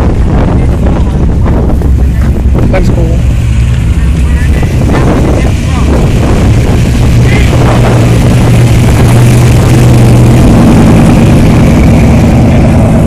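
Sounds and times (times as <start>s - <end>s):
car engine idling loudly: 0.0s - 13.0s.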